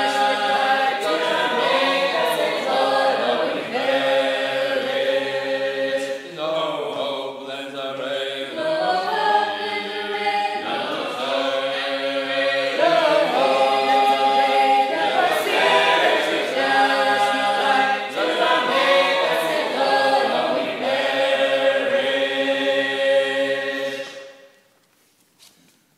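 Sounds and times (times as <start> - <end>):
choir singing a hymn unaccompanied: 0.0 - 24.4.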